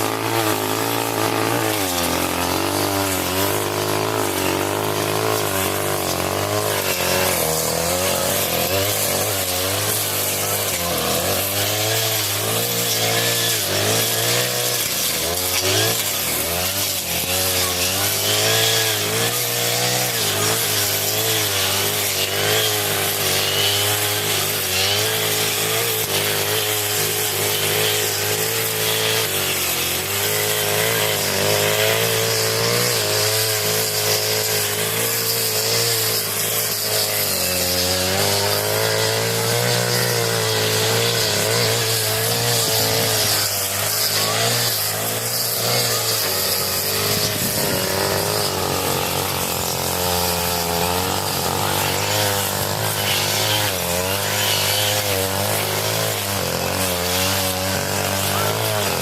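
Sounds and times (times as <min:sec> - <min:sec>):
brush cutter cutting grass: 0:00.0 - 0:59.0.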